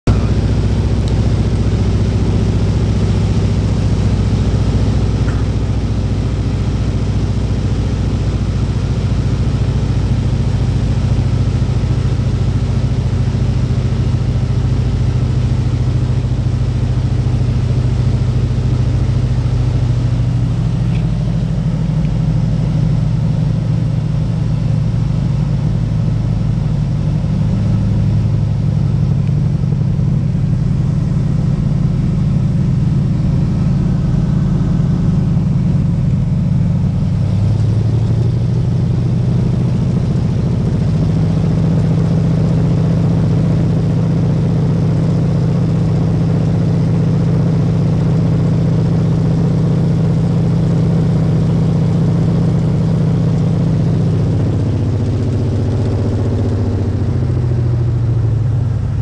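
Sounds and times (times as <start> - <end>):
plane engine and propeller droning: 0.1 - 59.0.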